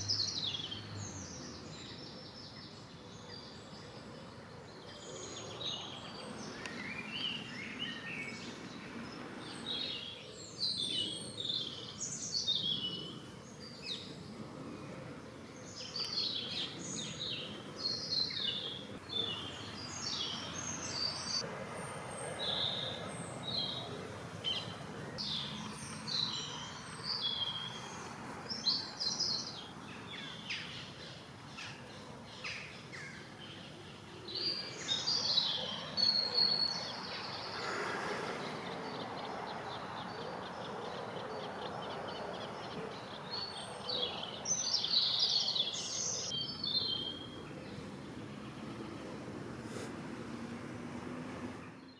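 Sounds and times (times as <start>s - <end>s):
songbirds chirping and singing: 0.0s - 49.3s
outdoor background hiss: 0.0s - 51.9s.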